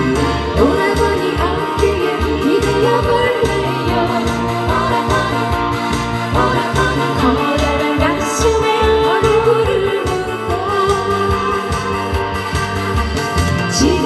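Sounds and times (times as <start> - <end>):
trot music with gliding melody: 0.0 - 14.0.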